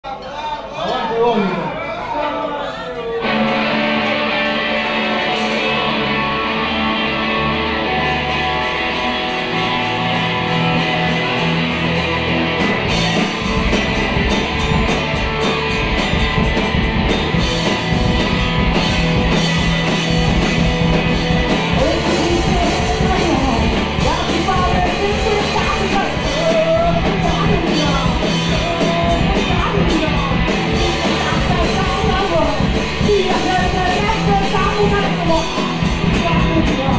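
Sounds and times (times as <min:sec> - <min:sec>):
rock guitar chords: 0:03.2 - 0:36.9
steady drum beat: 0:03.6 - 0:36.9.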